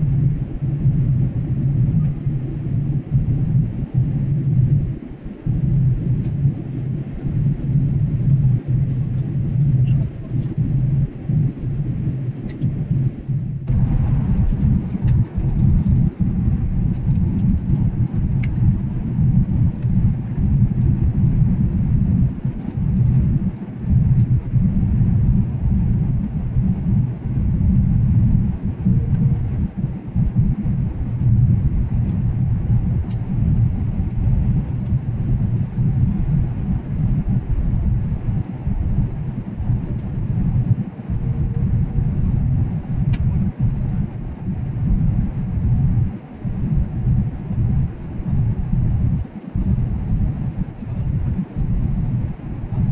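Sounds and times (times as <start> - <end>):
jet airliner cabin rumble: 0.0 - 52.9.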